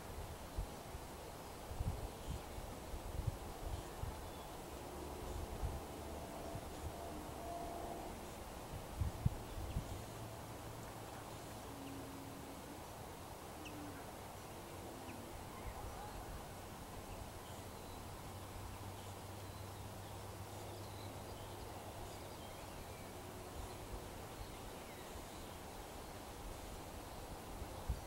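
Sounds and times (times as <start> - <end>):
low steady hum: 0.0 - 28.0
open-air background hiss: 0.0 - 28.0.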